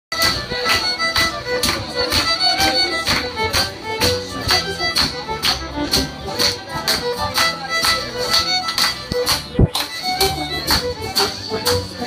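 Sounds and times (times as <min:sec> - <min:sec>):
fiddle playing folk tune: 0:00.1 - 0:12.0
percussive beat: 0:00.1 - 0:12.0.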